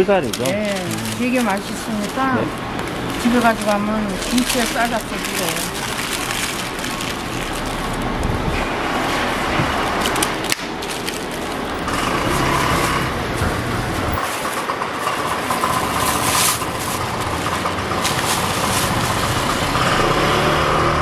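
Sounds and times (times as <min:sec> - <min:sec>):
paper and plastic bag rustling: 0:00.0 - 0:20.1
street traffic: 0:00.0 - 0:21.0.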